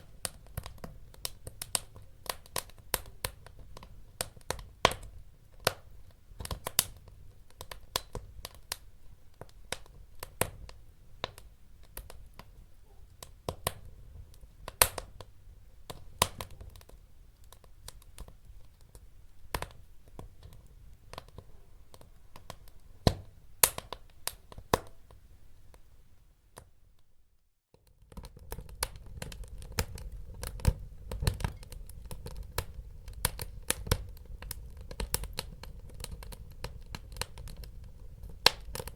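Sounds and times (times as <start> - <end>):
wood fire crackling: 0.0 - 26.7, 27.7 - 38.9.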